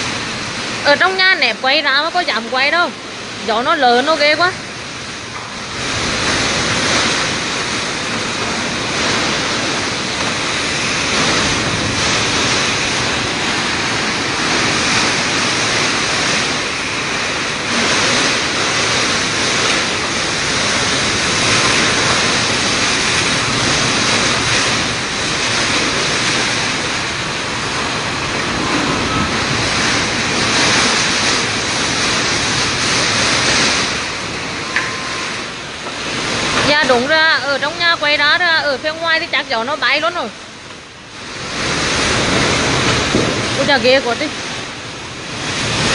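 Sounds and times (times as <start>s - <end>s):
heavy rain: 0.0s - 45.9s
strong wind gusts: 0.0s - 45.9s.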